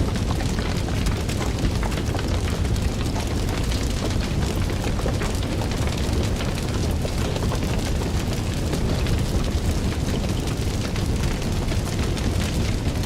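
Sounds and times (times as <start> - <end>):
fire roaring: 0.0 - 13.0
fire snapping and popping: 0.0 - 13.0.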